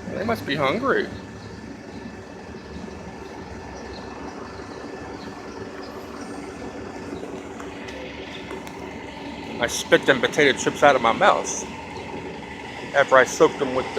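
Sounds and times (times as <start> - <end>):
city street traffic: 0.0 - 13.9
vehicle engine idling: 0.0 - 13.9.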